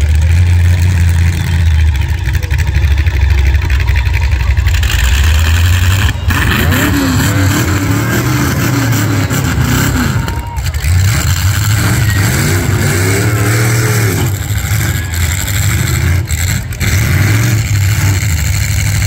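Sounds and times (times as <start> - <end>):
car engines rumbling and revving: 0.0 - 19.0.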